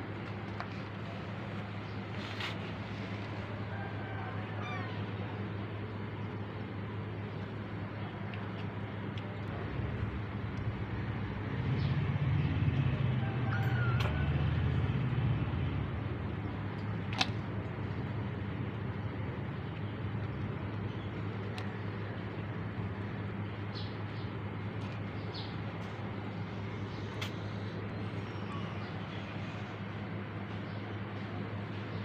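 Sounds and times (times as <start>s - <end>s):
low hum and rumble: 0.0s - 32.0s.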